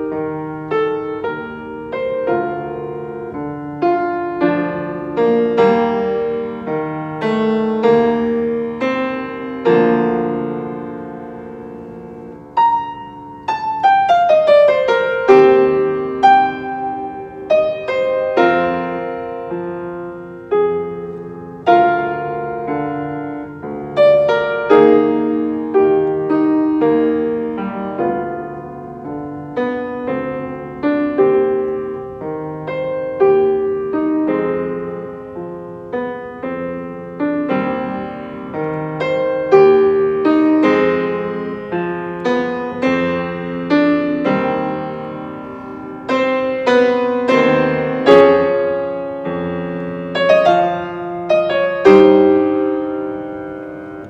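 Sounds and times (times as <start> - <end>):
slow solo piano piece: 0.0 - 54.0.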